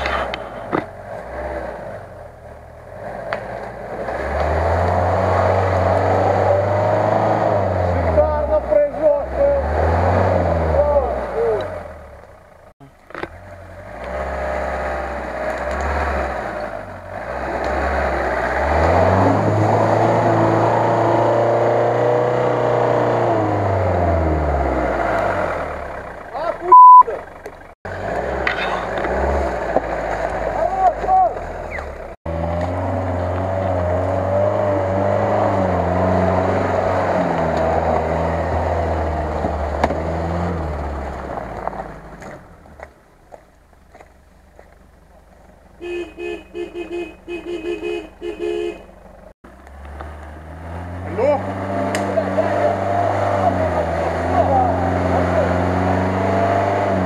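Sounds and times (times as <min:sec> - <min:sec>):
engine revving under load: 0:00.0 - 0:43.0, 0:49.3 - 0:57.0.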